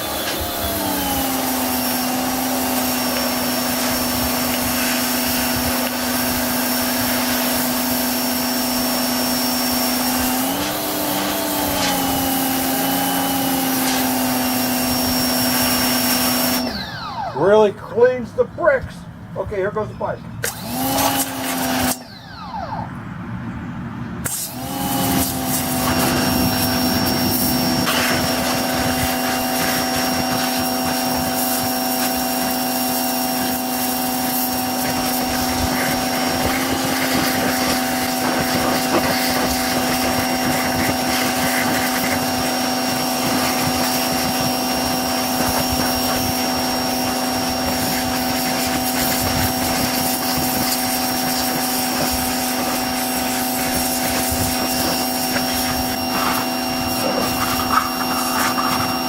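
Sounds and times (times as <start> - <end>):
high-pressure water spray hissing: 0.0 - 16.8, 20.4 - 22.0, 24.2 - 59.0
pressure washer pump humming: 0.0 - 23.5, 24.2 - 59.0.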